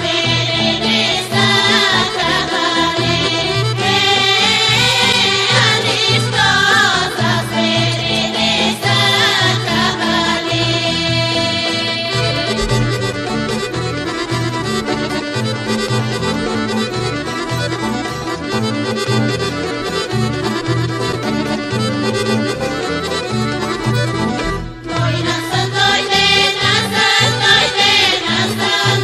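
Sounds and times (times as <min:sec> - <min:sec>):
accordion folk music: 0:00.0 - 0:29.0.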